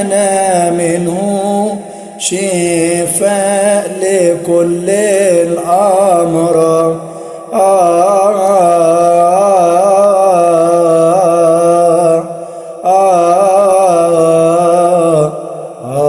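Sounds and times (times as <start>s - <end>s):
man chanting a hymn: 0.0s - 16.0s.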